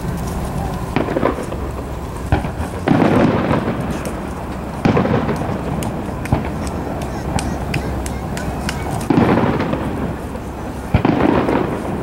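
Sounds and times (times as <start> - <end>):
fireworks shells booming: 0.0 - 12.0.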